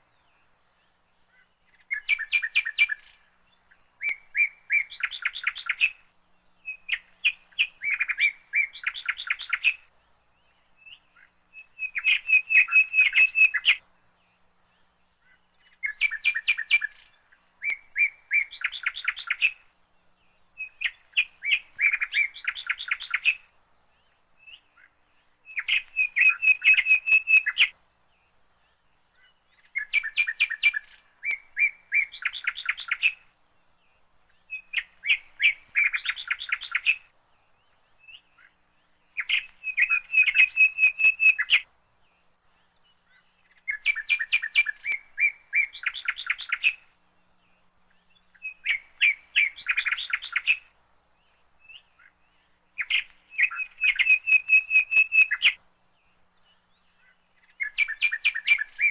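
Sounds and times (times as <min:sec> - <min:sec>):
songbird chirps and trills: 0:00.0 - 0:58.9.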